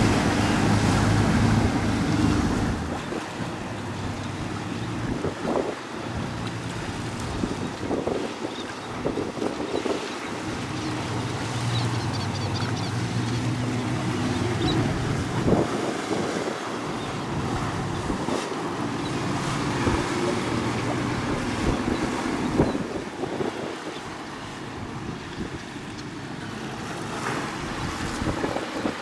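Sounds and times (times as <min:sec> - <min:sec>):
motorboat engine running: 0:00.0 - 0:29.0
wind buffeting microphone: 0:00.0 - 0:29.0.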